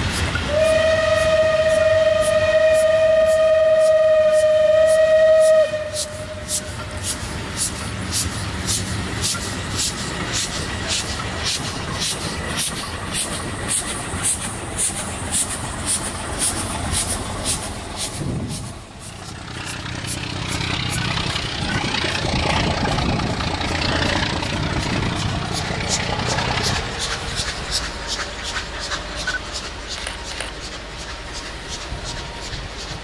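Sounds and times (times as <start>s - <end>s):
steam locomotive puffing: 0.0s - 33.0s
steam train rushing noise: 0.0s - 33.0s
train rumble: 0.0s - 33.0s.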